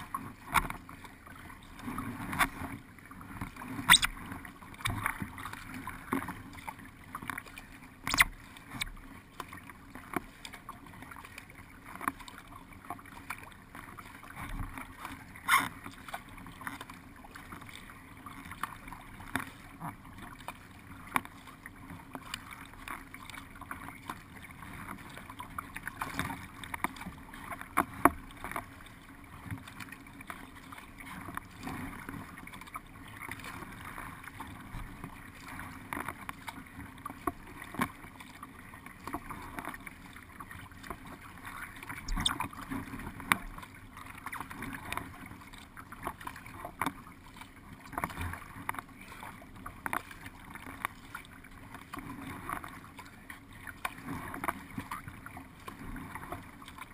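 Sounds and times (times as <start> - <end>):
paddle splashes and knocks: 0.0 - 56.9
water rushing along boat hull: 0.0 - 56.9.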